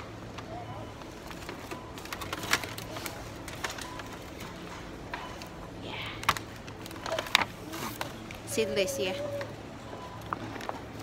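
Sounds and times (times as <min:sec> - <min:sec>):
supermarket hum: 0:00.0 - 0:11.0.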